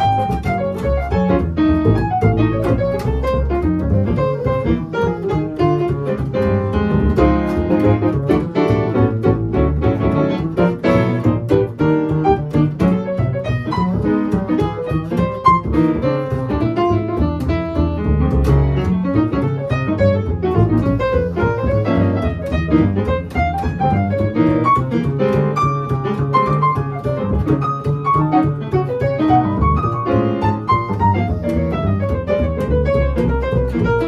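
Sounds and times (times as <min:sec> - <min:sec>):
acoustic piano: 0:00.0 - 0:34.0
plucked upright double bass: 0:00.0 - 0:34.0.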